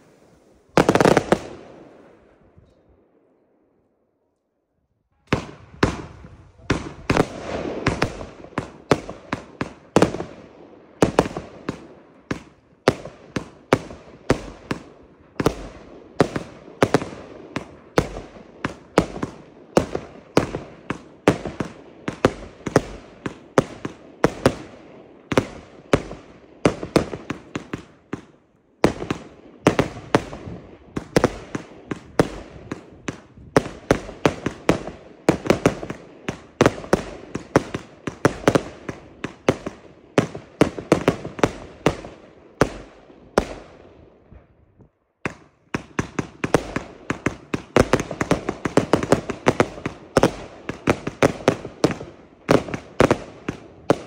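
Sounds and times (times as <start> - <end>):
fireworks launching and bursting: 0.0 - 2.4, 5.3 - 44.5, 45.2 - 54.0.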